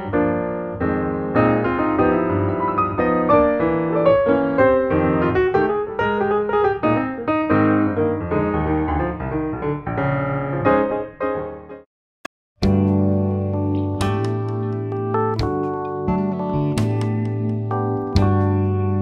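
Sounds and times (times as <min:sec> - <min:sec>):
piano music: 0:00.0 - 0:11.9, 0:12.6 - 0:19.0.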